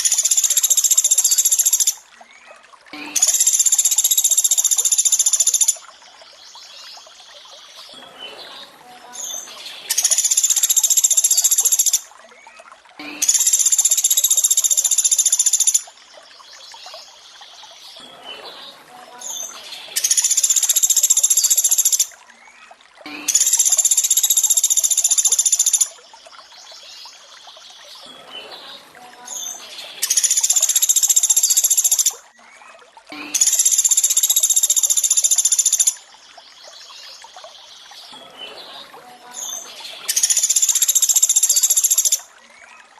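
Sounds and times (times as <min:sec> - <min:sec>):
running water trickling: 0:00.0 - 0:42.9.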